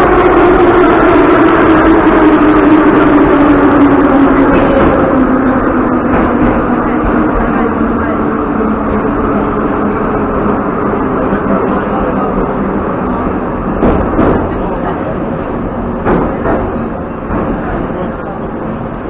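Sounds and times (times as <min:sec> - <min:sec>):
wheel and track noise: 0:00.0 - 0:19.0.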